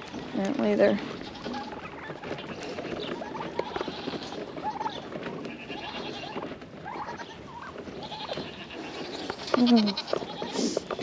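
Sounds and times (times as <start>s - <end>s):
goats calling: 0.0s - 11.0s
outdoor background: 0.0s - 11.0s
poultry clucking: 0.0s - 11.0s.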